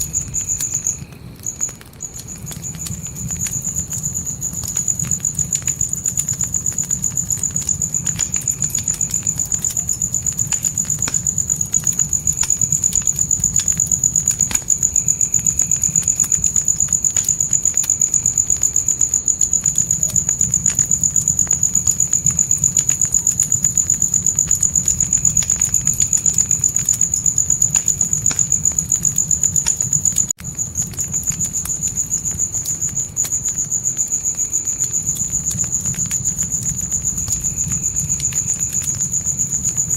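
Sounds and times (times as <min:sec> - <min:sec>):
campfire rumble and crackles: 0:00.0 - 0:39.9
crickets chirping: 0:00.0 - 0:39.9.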